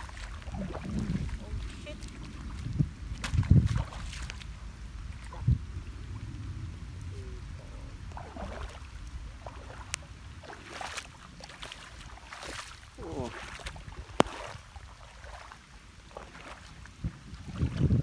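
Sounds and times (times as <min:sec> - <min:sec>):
water knocks and splashes: 0:00.0 - 0:06.4, 0:08.0 - 0:18.0
low water rumble: 0:00.0 - 0:18.0.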